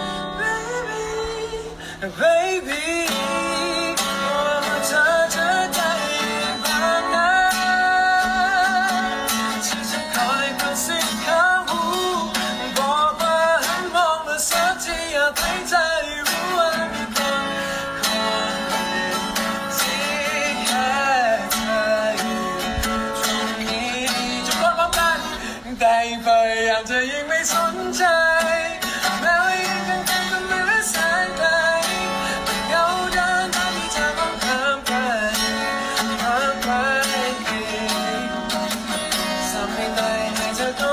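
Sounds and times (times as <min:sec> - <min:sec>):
acoustic guitar strumming: 0:00.0 - 0:40.9
man singing: 0:00.0 - 0:40.9.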